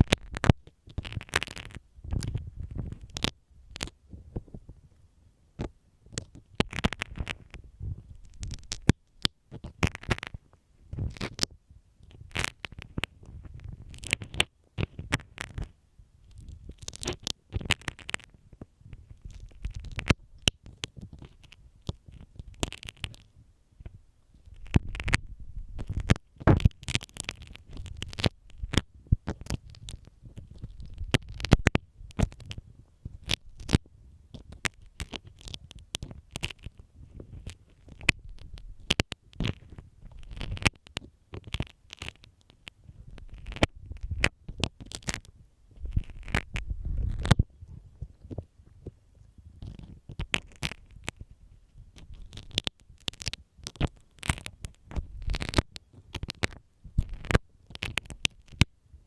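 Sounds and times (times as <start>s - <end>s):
pins scratching on microphone: 0.0s - 5.0s, 5.6s - 58.7s.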